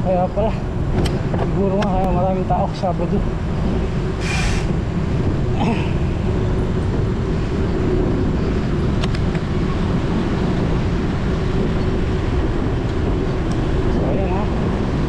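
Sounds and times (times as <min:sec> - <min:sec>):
road and tyre noise: 0:00.0 - 0:15.0
wind rumble on microphone: 0:00.0 - 0:15.0.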